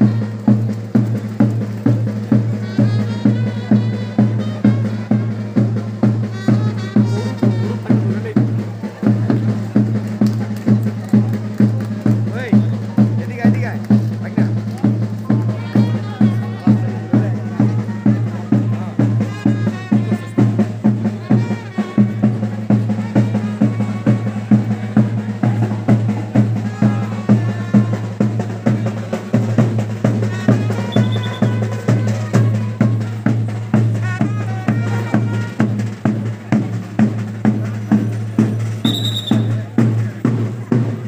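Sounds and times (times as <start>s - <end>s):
bass drum and snare beat: 0.0s - 41.0s
brass band playing march: 0.0s - 41.0s.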